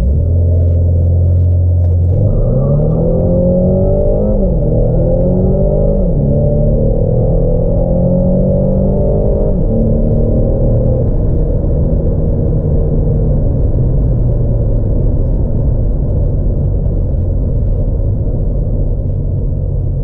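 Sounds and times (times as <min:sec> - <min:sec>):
car engine note: 0:00.0 - 0:20.0
low rumble of car at speed: 0:00.0 - 0:20.0.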